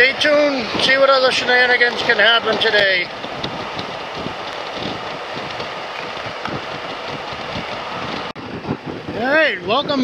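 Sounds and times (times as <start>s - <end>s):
motorcycle road noise: 0.0s - 10.0s
wind rushing: 0.0s - 10.0s.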